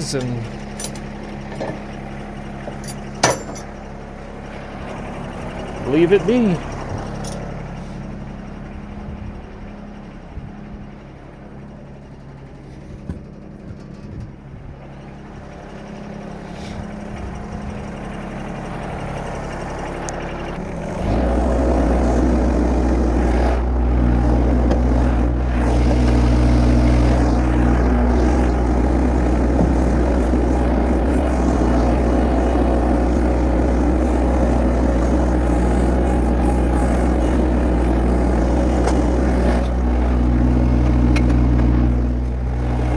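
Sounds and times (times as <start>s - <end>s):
engine running with deep hum: 0.0s - 42.9s.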